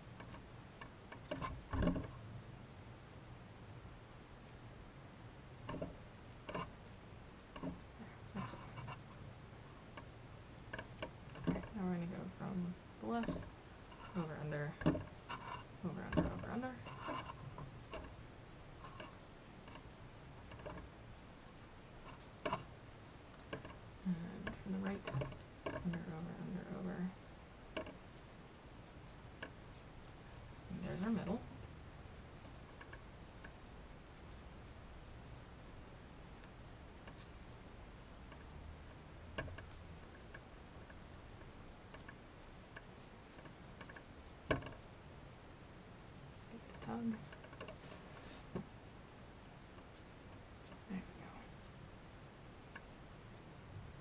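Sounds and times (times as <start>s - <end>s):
cords being woven by hand: 0.0s - 2.3s, 4.3s - 54.0s
low steady hum: 0.0s - 54.0s.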